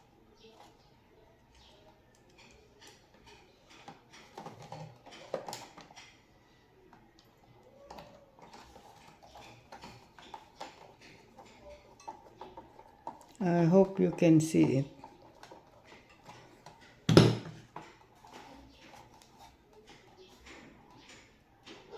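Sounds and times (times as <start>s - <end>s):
small tools clicking and scraping: 0.0s - 21.9s.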